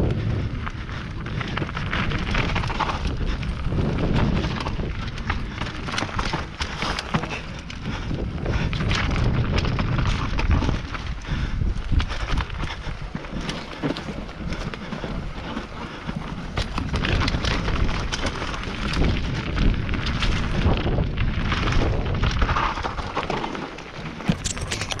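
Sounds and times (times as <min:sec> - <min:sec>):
tyres on dirt: 0:00.0 - 0:11.2, 0:11.8 - 0:25.0
bike clicking and rattling: 0:00.0 - 0:25.0
wind rumble on microphone: 0:00.0 - 0:25.0.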